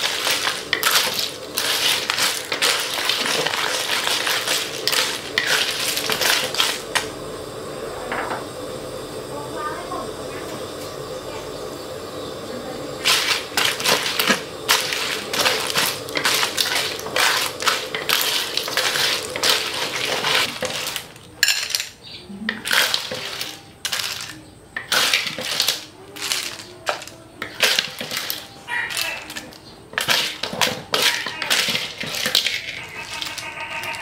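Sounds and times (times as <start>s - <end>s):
shells clattering in a metal wok: 0.0s - 7.1s, 13.0s - 34.0s
spatula scraping a wok: 0.0s - 7.1s, 13.0s - 34.0s.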